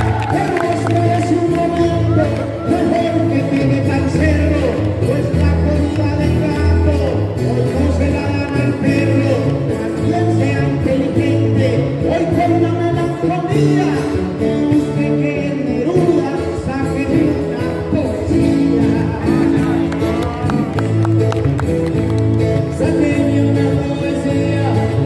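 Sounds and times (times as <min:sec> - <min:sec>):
men singing improvised verses: 0:00.0 - 0:20.2, 0:22.7 - 0:25.0.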